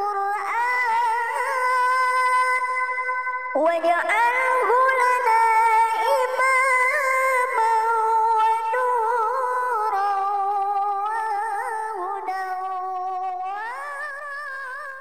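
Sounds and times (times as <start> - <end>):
person singing long notes: 0.0 - 15.0.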